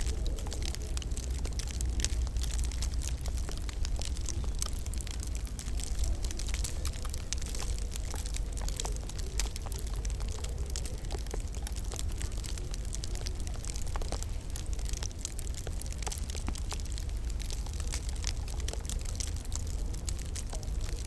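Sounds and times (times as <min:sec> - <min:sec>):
fire low rumble: 0:00.0 - 0:21.0
wood fire crackling and popping: 0:00.0 - 0:21.0.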